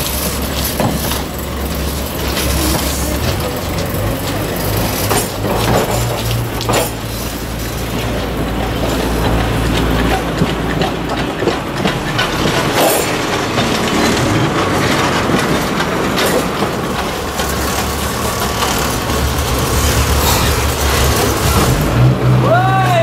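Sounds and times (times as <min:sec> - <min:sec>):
locomotive engine hum: 0:00.0 - 0:23.0
wheels knocking on rails: 0:00.0 - 0:23.0.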